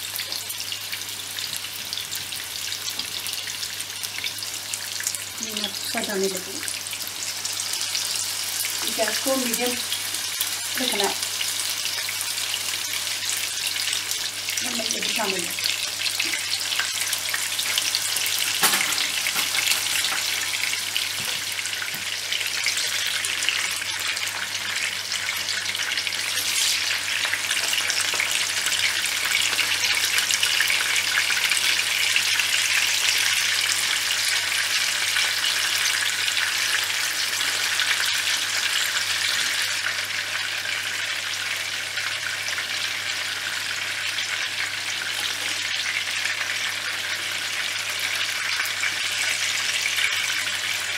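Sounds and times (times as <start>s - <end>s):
kebabs sizzling in hot oil: 0.0s - 50.9s.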